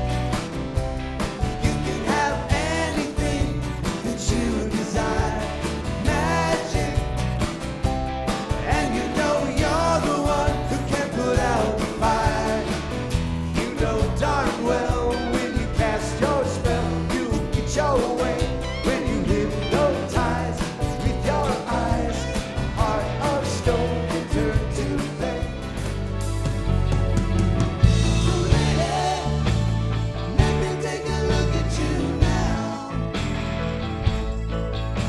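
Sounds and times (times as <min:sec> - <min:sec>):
rock band playing: 0:00.0 - 0:35.0
person singing: 0:01.5 - 0:07.5, 0:08.6 - 0:26.0, 0:28.0 - 0:33.4.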